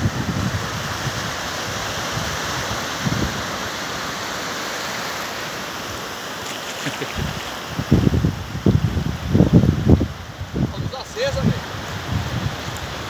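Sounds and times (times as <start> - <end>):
small waves washing on sand: 0.0 - 13.0
wind gust on microphone: 0.0 - 13.0.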